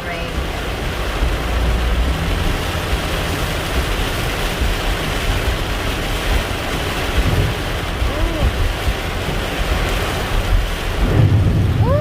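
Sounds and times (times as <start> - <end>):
heavy rain on car: 0.0 - 12.0
road rumble: 0.0 - 12.0.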